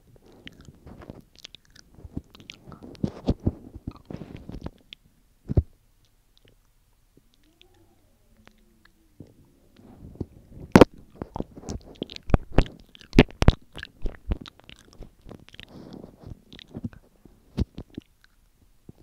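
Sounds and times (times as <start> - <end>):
mouth licking and lip smacking: 0.2 - 5.1, 6.0 - 7.8, 8.4 - 9.9, 10.7 - 19.0.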